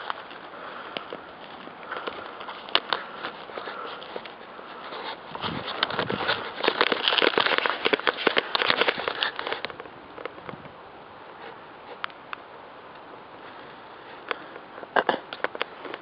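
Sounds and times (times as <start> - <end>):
dry leaves crackling underfoot: 0.0 - 16.0.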